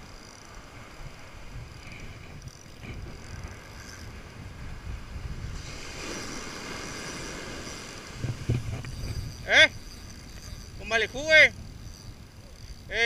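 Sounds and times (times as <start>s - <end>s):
fishing reel cranking: 0.0s - 13.0s
wind buffeting microphone: 0.0s - 13.0s.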